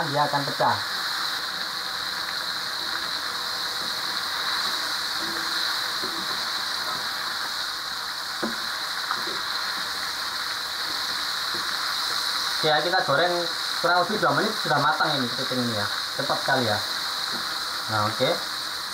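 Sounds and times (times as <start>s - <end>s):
oil sizzling and bubbling: 0.0s - 18.9s.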